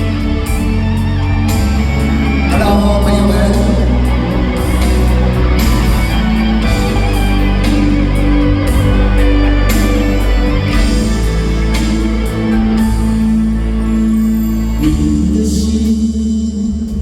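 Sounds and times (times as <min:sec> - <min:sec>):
pop-rock band instrumental: 0:00.0 - 0:17.0.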